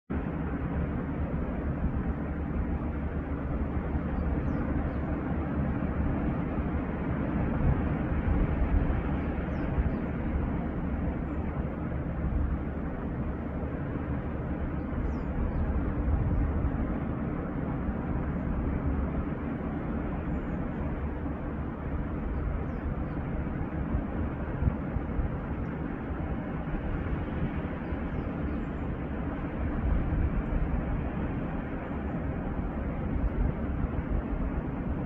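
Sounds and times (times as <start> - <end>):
wind: 0.0 - 35.0.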